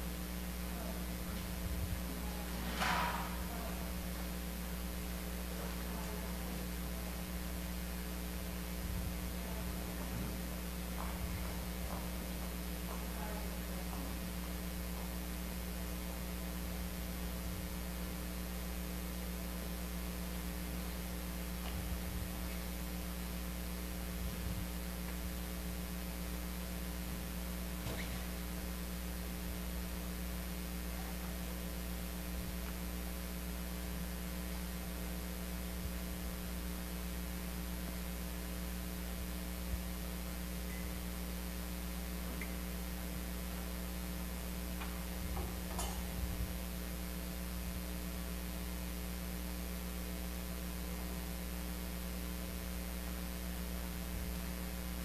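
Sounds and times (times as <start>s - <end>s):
electrical mains hum and hiss: 0.0s - 55.0s.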